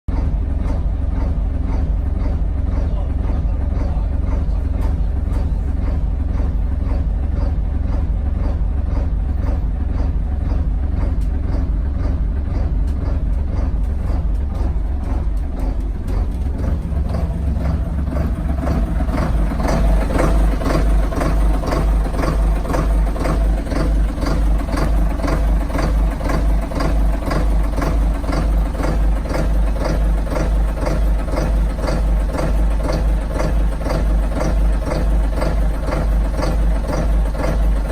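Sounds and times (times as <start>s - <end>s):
boat diesel engine pulsing: 0.1s - 37.9s.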